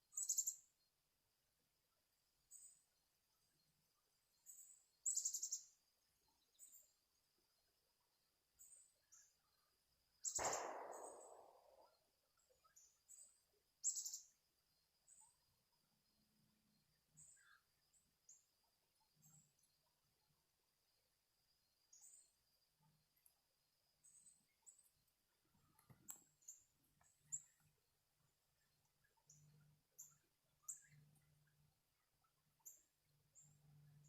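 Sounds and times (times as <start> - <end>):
small birds chirping: 0.0 - 0.9, 2.3 - 20.6, 21.3 - 34.0.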